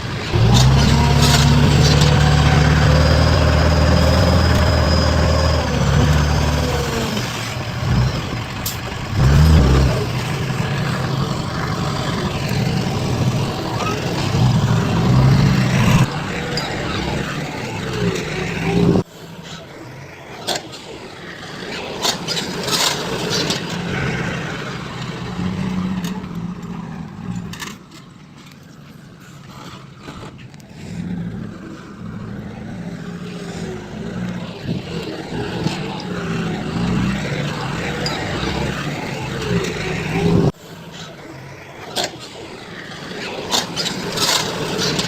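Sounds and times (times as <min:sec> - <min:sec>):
diesel machinery engine: 0:00.0 - 0:45.0.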